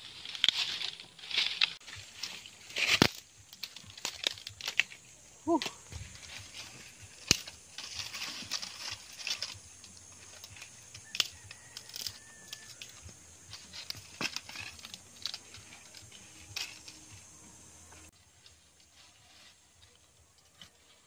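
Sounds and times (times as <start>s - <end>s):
dry sticks rustling and crackling: 0.0s - 21.0s.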